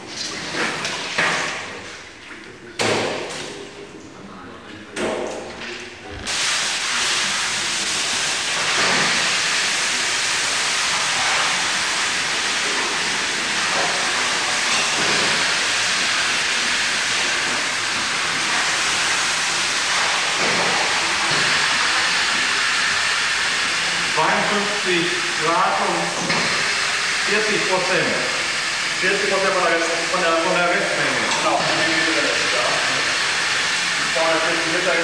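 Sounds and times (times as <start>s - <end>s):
water running from a hose: 6.2s - 35.0s.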